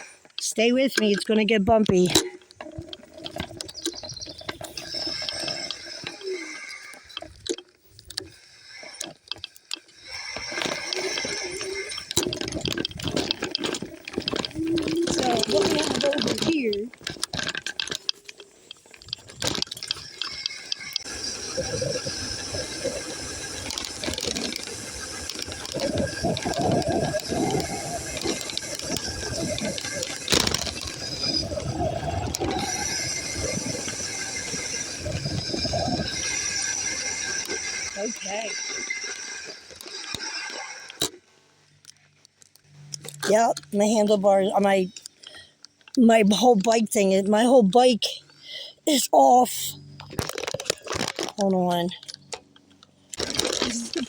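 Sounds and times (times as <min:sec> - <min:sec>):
scooter rattling over bumpy ground: 0:00.0 - 0:54.0.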